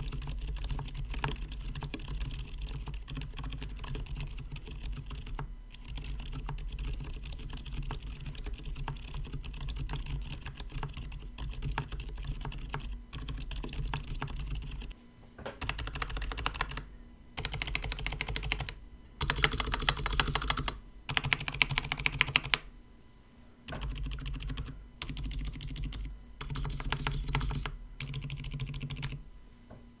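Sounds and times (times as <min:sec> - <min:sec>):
muted keyboard keystrokes: 0:00.0 - 0:14.9, 0:15.6 - 0:16.8, 0:17.4 - 0:22.6, 0:23.7 - 0:29.2.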